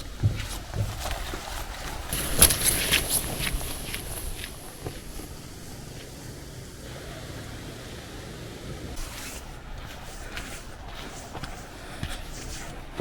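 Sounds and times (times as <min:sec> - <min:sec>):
footsteps on a walking track: 0:00.0 - 0:06.5, 0:08.5 - 0:13.0
wind buffeting microphone: 0:00.0 - 0:13.0.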